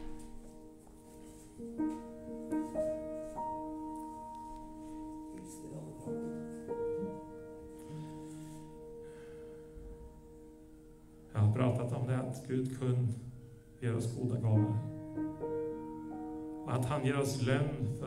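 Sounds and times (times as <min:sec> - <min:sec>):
slow soft piano music: 0:00.0 - 0:18.0.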